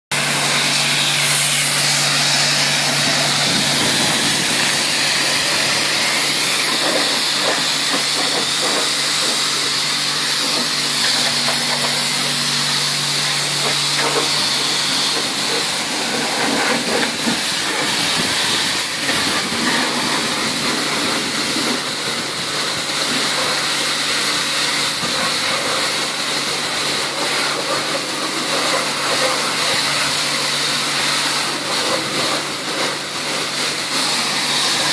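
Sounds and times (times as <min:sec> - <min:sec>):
pressure washer spraying: 0:00.1 - 0:34.9.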